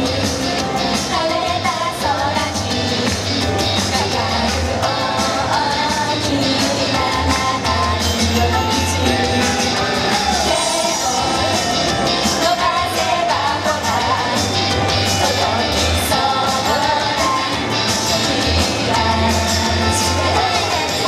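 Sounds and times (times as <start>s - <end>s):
upbeat pop backing track: 0.0s - 21.0s
young women singing: 0.0s - 21.0s.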